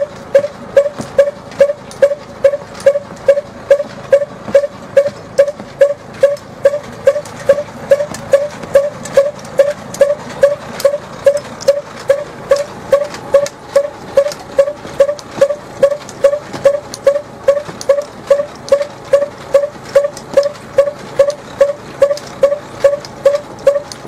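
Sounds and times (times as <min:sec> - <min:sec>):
fodder cutter squeaking clank: 0:00.0 - 0:24.0.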